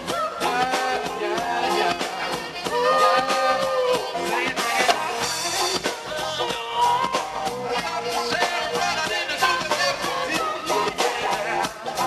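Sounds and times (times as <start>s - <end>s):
man singing: 0.0s - 12.0s
reggae band playing: 0.0s - 12.0s.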